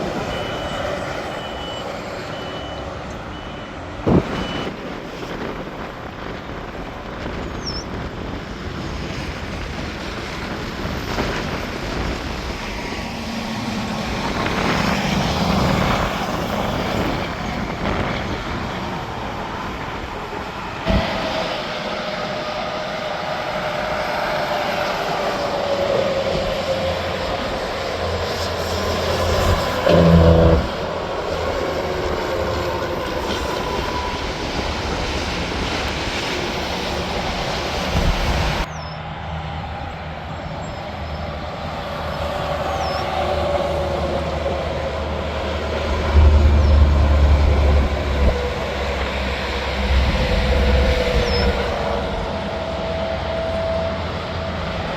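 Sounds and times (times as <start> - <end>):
heavy truck rumble: 0.0 - 54.9
highway traffic passing: 0.0 - 54.9.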